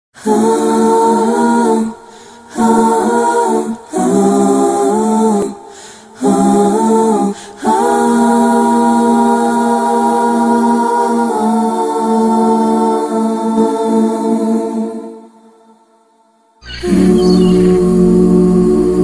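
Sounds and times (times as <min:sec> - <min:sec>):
choir singing held chords: 0:00.2 - 0:19.0.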